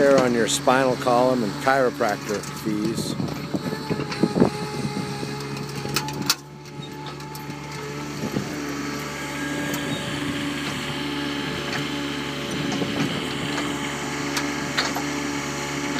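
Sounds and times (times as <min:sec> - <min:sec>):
loader engine running: 0:00.0 - 0:15.9.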